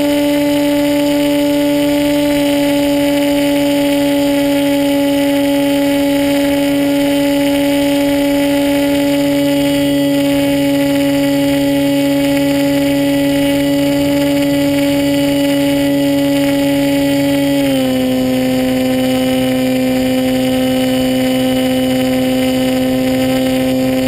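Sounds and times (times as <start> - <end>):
model plane motor: 0.0 - 24.0.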